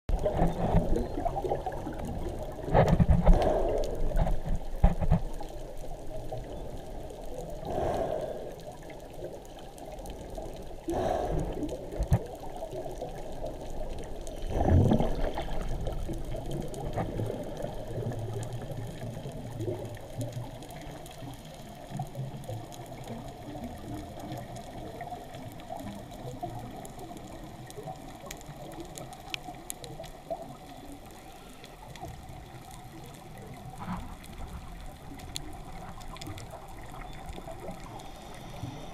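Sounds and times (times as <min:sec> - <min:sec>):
muffled underwater water churning: 0:00.1 - 0:38.9.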